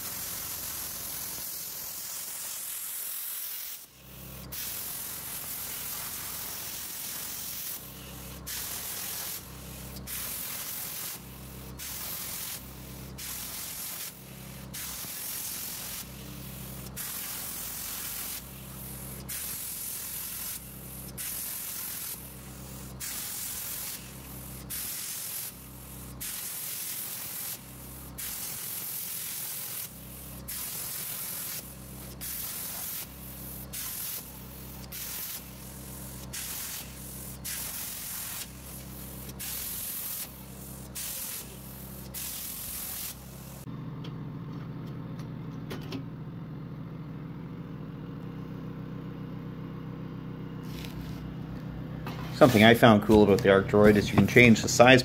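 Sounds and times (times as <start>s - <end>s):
plasma cutter arc hissing: 0.0s - 43.7s, 52.3s - 55.0s.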